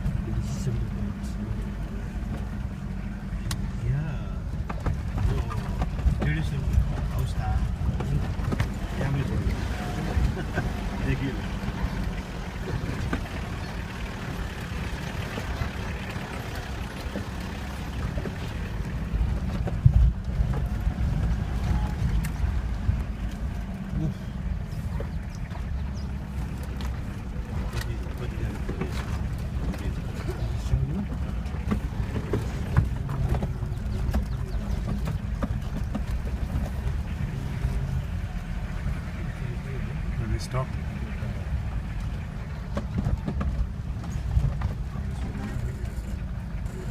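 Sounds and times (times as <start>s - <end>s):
vehicle low rumble: 0.0s - 46.9s
knocks and rattles: 4.5s - 24.0s, 24.9s - 38.4s, 40.7s - 46.9s.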